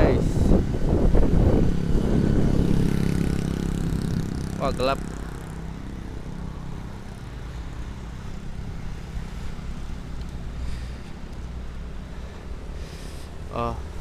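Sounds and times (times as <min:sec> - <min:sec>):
engines running nearby: 0:00.0 - 0:14.0
traffic rumble: 0:00.0 - 0:14.0.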